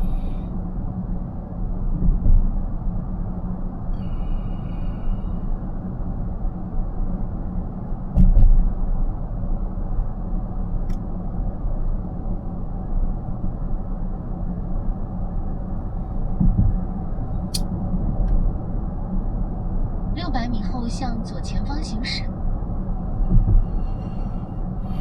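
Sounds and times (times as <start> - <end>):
car road and tyre noise: 0.0 - 20.2, 21.8 - 25.0.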